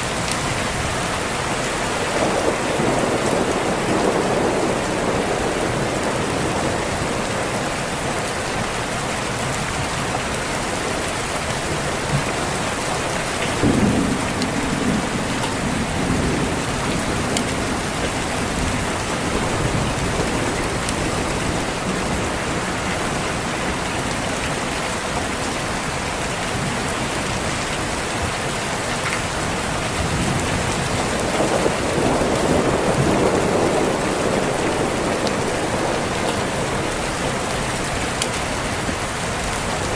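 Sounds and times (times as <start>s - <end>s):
thunder rumbling: 0.0s - 28.4s, 29.3s - 39.9s
heavy rain: 0.0s - 39.9s.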